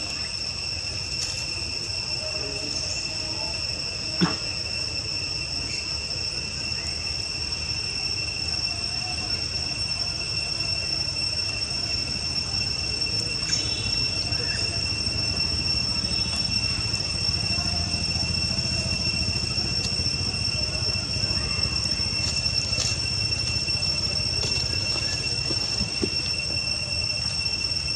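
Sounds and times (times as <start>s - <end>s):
high-pitched insect drone: 0.0s - 27.9s.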